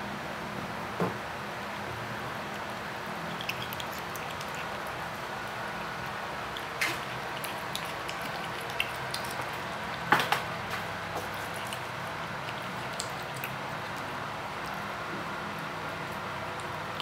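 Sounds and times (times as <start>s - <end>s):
cat chewing and smacking: 2.4s - 17.0s.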